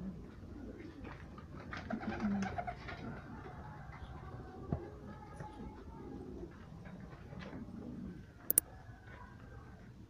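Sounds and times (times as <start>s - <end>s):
pigeon cooing: 0.0s - 9.7s.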